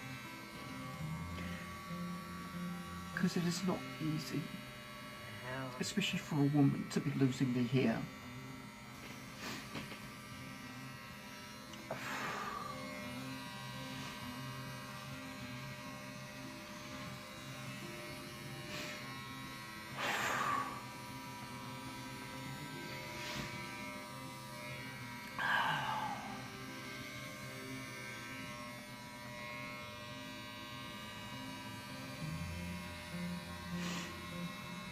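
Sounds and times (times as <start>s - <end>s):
electric hair clippers buzzing: 0.0s - 34.9s.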